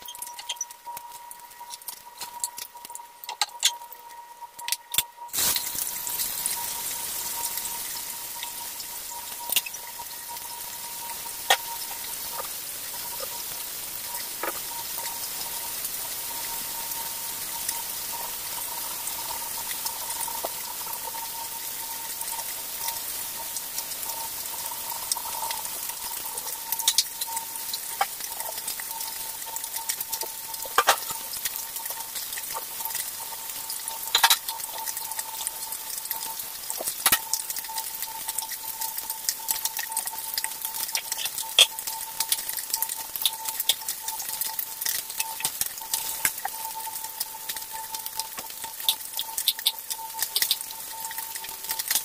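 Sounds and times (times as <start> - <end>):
faint steady tone: 0.0 - 52.0
fish sizzling in hot oil: 0.0 - 52.0.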